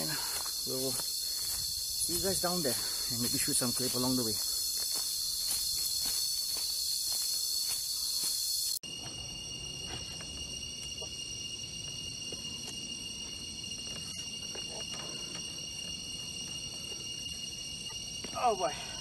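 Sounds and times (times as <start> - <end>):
faint high insect drone: 0.0 - 19.0
pulsing insect chorus: 0.0 - 19.0.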